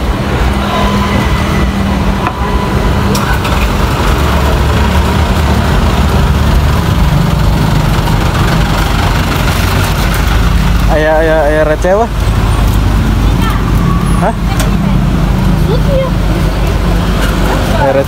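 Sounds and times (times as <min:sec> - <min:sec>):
engine idling: 0:02.2 - 0:18.0.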